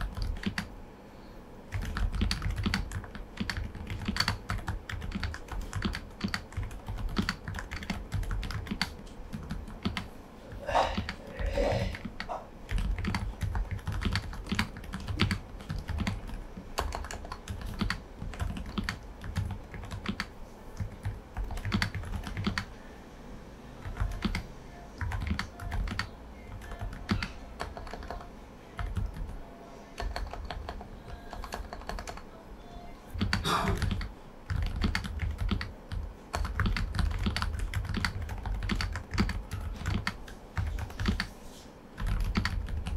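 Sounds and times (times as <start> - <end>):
soft keyboard typing: 0.0 - 0.7, 1.7 - 22.8, 23.8 - 29.4, 30.0 - 32.3, 33.1 - 42.9.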